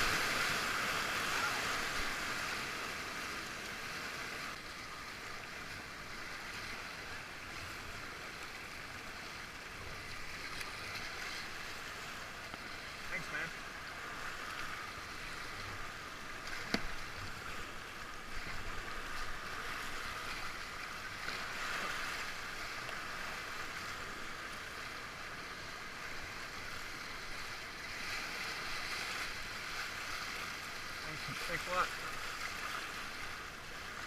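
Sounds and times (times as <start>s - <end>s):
river rapid rushing water: 0.0s - 34.0s.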